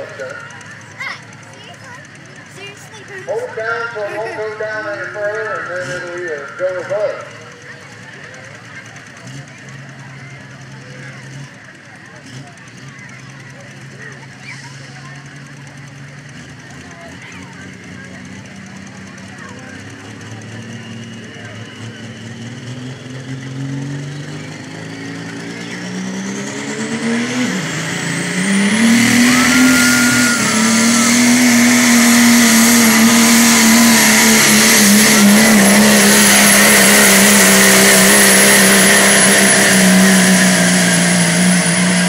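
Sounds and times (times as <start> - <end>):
diesel truck engine revving: 0.0 - 42.0.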